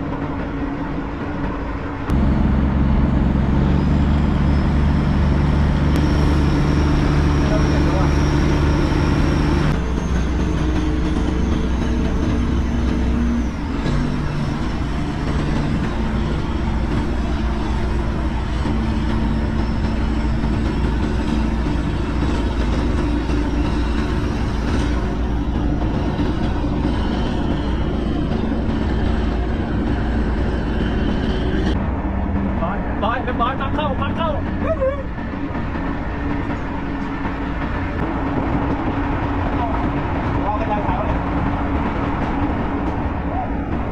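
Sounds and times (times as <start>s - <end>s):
boat engine humming: 0.0s - 43.9s.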